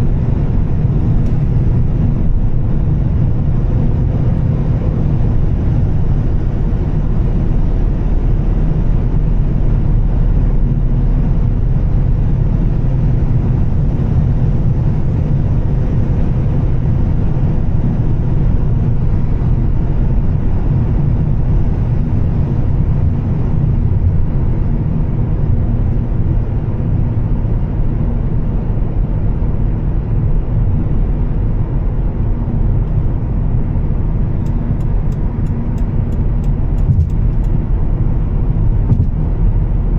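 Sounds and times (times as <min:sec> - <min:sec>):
car engine and exhaust drone: 0:00.0 - 0:39.9
road and tyre noise: 0:00.0 - 0:39.9.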